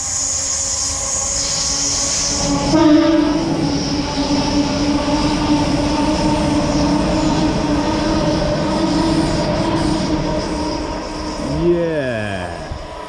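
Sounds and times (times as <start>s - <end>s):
train wheels on rails: 0.0s - 13.0s
train whine: 0.0s - 13.0s.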